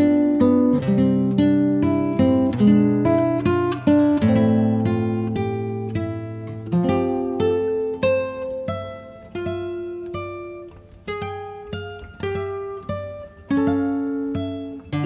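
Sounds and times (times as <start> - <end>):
plucked acoustic guitar melody: 0.0 - 15.0.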